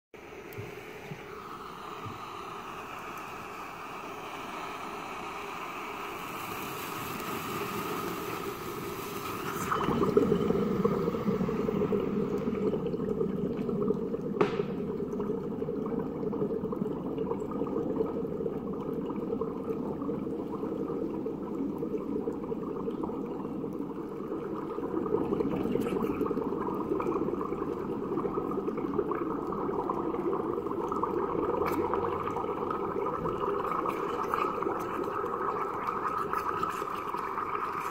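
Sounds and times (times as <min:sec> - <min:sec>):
water bubbling and gurgling: 0:00.2 - 0:37.9.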